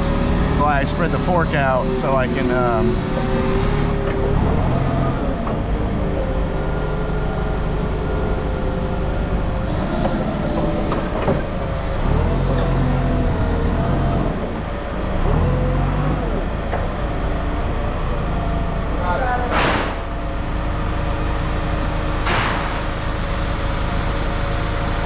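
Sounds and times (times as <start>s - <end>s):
forklift engine running: 0.0s - 25.0s
hydraulic whine: 0.0s - 25.0s.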